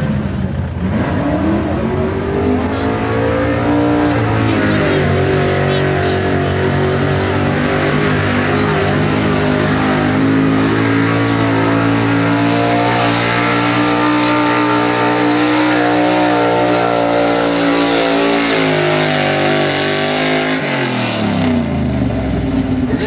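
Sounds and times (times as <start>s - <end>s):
pickup engine revving under load: 0.0s - 23.0s.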